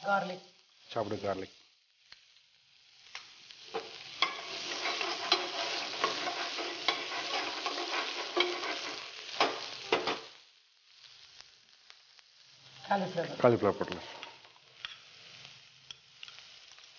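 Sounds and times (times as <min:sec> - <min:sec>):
onion sizzling in oil: 0:00.0 - 0:16.9.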